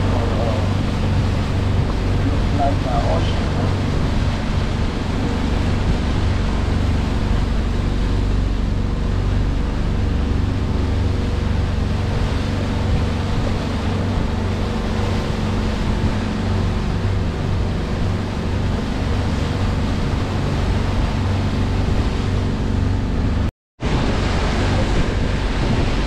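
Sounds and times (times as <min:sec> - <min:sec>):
boat engine droning: 0:00.0 - 0:26.0
rushing water: 0:00.0 - 0:26.0
wind: 0:00.0 - 0:26.0.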